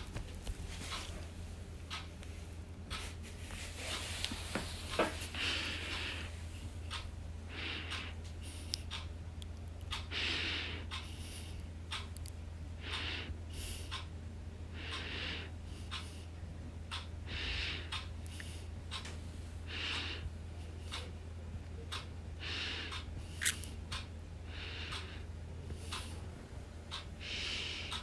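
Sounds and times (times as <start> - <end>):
soft regular breathing: 0.0 - 28.0
steady low hum: 0.0 - 28.0.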